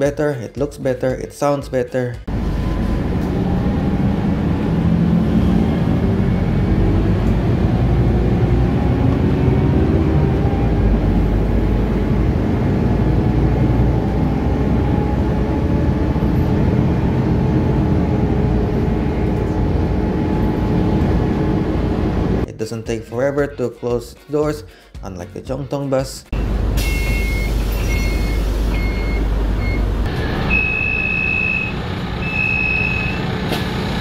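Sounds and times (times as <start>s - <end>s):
bus engine and road rumble: 2.2s - 22.5s, 26.3s - 34.0s.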